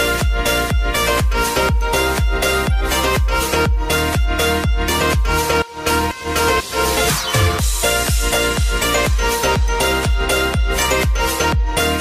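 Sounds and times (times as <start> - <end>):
kick drum beat: 0.0 - 5.6, 7.4 - 12.0
electronic dance music: 0.0 - 12.0
sustained synth chords: 0.0 - 12.0.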